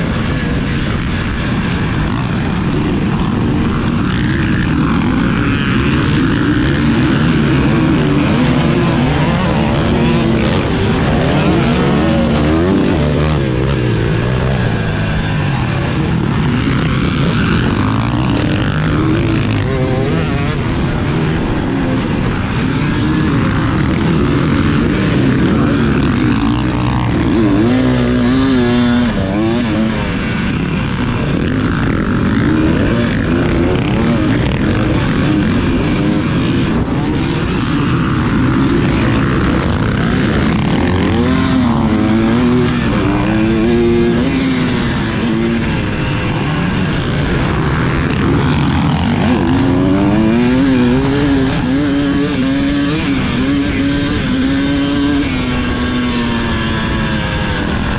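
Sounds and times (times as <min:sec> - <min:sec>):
dirt bike engine racing: 0:00.0 - 0:57.9.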